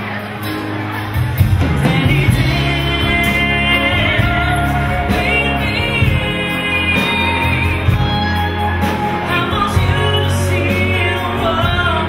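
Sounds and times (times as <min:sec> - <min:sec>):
live band playing pop: 0:00.0 - 0:12.0
woman singing: 0:01.7 - 0:12.0.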